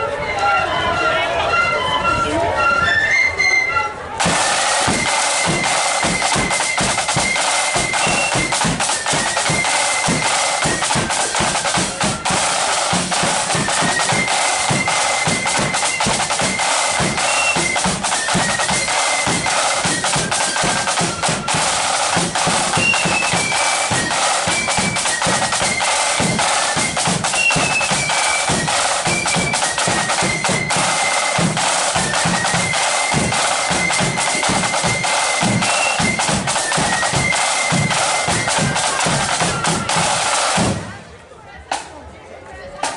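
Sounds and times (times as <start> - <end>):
flute melody: 0.0 - 40.9
snare and bass drums: 4.2 - 41.1.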